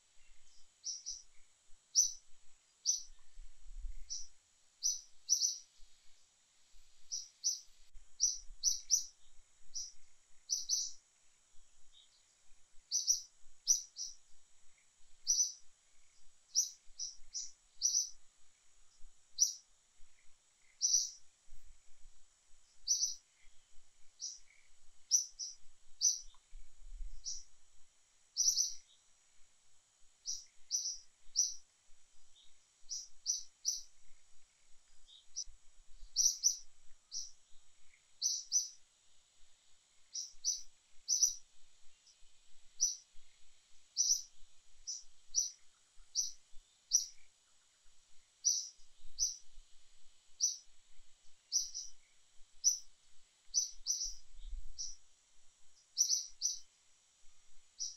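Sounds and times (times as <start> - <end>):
small bird chirping: 0.0 - 56.8, 57.5 - 57.9
faint high-pitched hum: 0.0 - 57.9.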